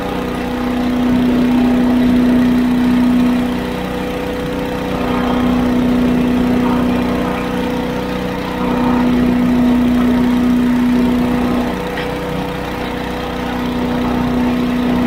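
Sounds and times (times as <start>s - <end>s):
leaf blower running: 0.0s - 15.0s
tractor engine: 0.0s - 15.0s.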